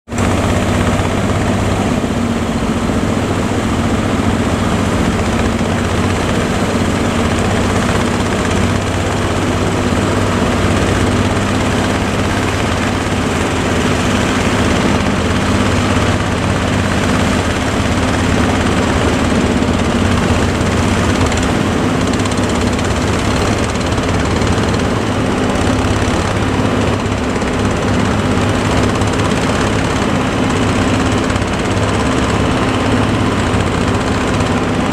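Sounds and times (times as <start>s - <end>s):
boat engine running steadily: 0.1s - 34.9s
broad rushing noise: 0.1s - 34.9s.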